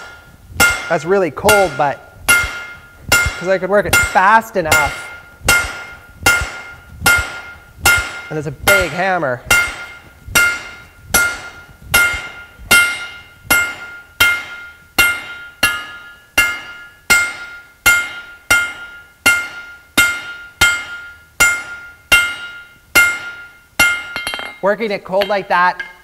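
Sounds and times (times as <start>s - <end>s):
hammer striking steel on anvil: 0.0s - 26.0s.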